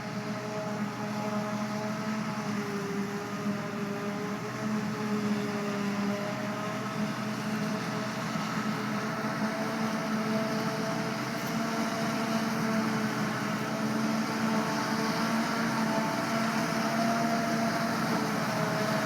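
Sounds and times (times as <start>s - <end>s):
farm machinery engine running: 0.0s - 19.0s.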